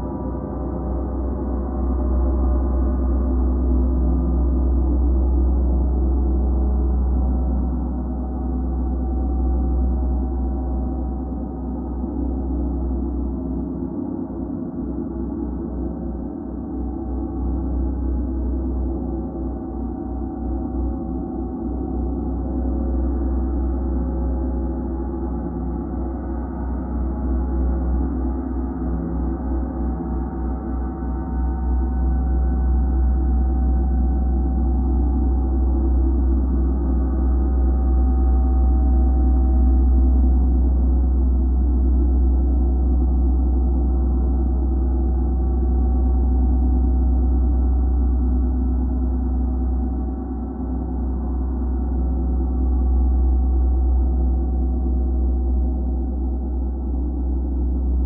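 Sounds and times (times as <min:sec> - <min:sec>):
deep low hum: 0:00.0 - 0:58.0.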